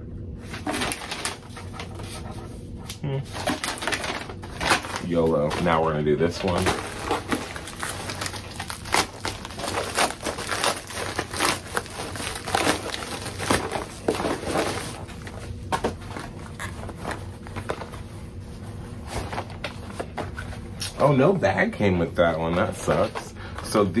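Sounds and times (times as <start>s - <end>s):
paper packaging rustling: 0.4s - 2.3s, 3.3s - 24.0s.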